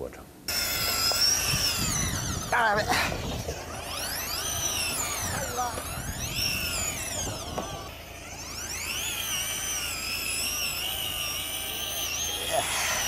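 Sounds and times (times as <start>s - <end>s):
fishing reel motor whining: 0.5s - 13.0s.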